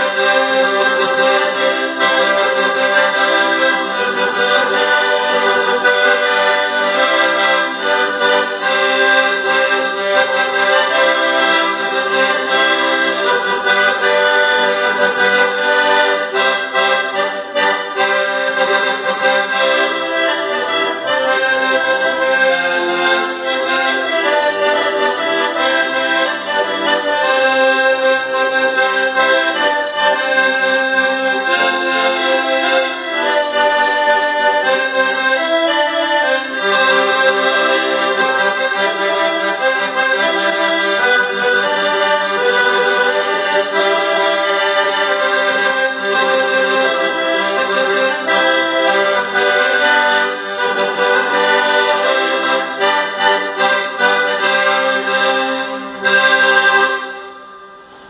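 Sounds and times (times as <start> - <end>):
piano accordion playing a tune: 0.0 - 58.0.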